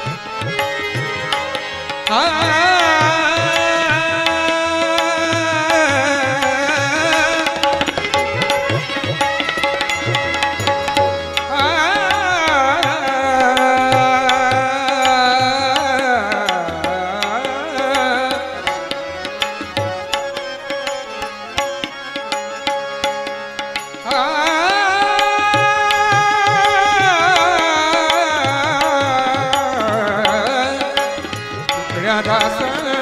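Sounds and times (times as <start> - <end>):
man singing wordless notes: 0.0 - 9.2, 11.4 - 20.2, 24.0 - 33.0
harmonium: 0.0 - 33.0
tabla strokes: 0.0 - 33.0
violin: 0.0 - 33.0.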